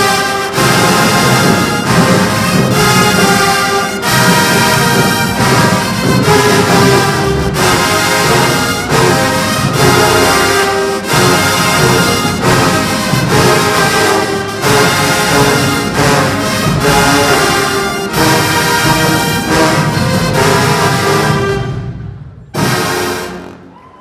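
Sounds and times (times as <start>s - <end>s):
brass band playing chords: 0.0s - 24.0s.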